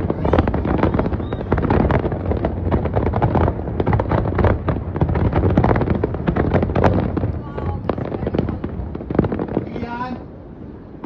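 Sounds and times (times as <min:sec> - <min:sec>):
fireworks cracks and bangs: 0:00.0 - 0:11.0
steady low rumble: 0:00.0 - 0:11.0.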